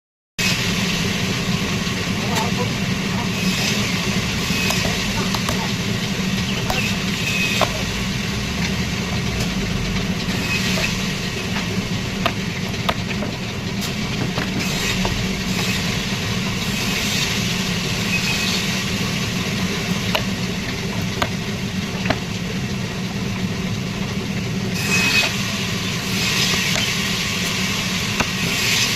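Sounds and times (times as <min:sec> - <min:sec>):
sawmill machinery humming: 0:00.4 - 0:28.9.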